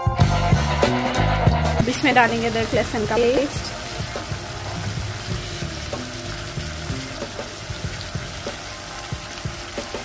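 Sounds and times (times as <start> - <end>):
food sizzling in hot oil: 1.8 - 10.0.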